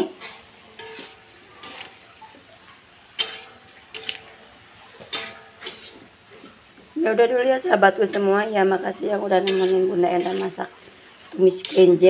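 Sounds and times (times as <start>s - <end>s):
spatula scraping metal wok: 0.0s - 12.0s.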